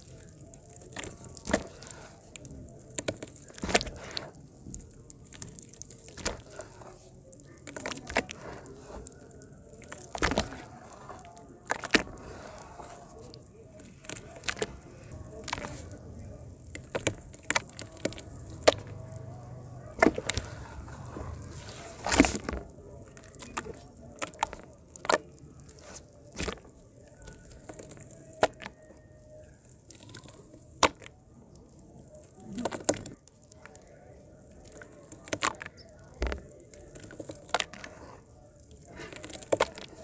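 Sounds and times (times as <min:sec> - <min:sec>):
hands squelching mud: 0:00.0 - 0:40.0.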